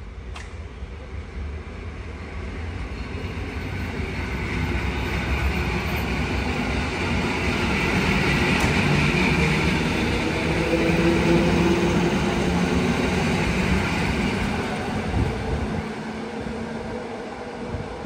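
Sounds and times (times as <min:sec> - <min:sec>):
train wheels rumbling: 0:00.6 - 0:18.0.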